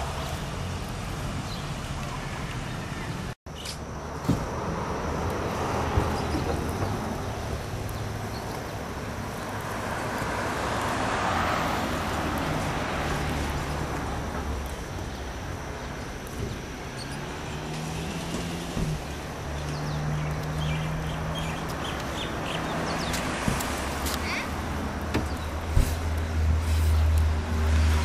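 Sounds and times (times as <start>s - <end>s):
board wheels rolling on asphalt: 0.0s - 28.0s.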